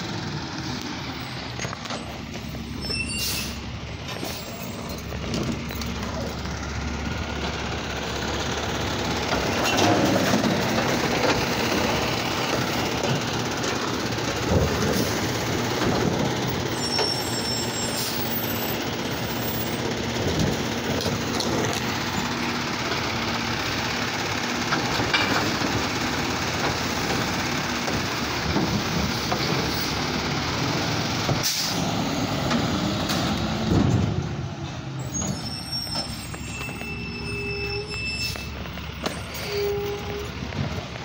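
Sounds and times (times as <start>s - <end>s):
garbage truck engine and hydraulics: 0.0s - 41.0s.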